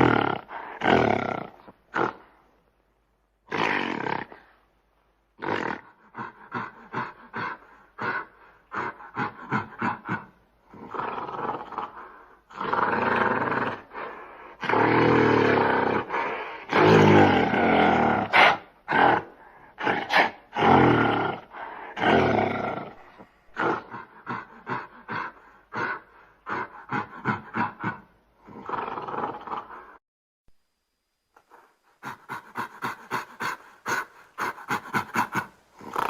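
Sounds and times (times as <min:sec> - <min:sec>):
gorilla roaring: 0:00.0 - 0:02.3, 0:03.5 - 0:04.4, 0:05.4 - 0:30.0, 0:32.0 - 0:36.0.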